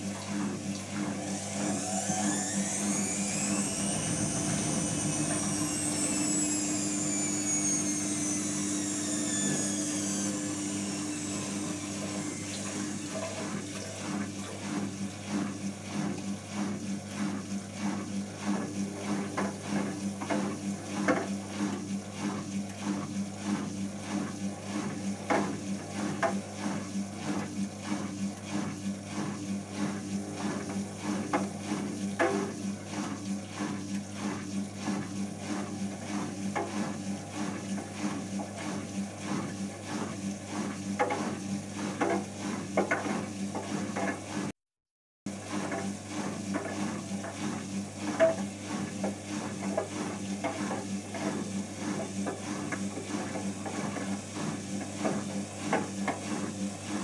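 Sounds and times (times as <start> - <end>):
washing machine motor whine: 0.0 - 44.5, 45.3 - 57.0.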